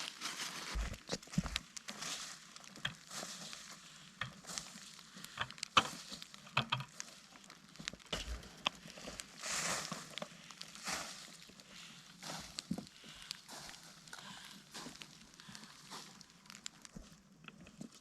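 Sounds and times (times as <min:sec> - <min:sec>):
sawdust mulch rustling: 0:00.0 - 0:07.8, 0:08.7 - 0:16.9.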